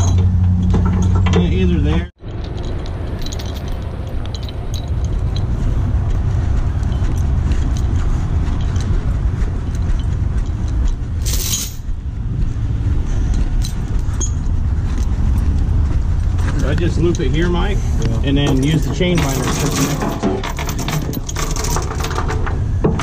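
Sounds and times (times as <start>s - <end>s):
light clicks and clinks: 2.2s - 11.9s, 13.1s - 22.5s.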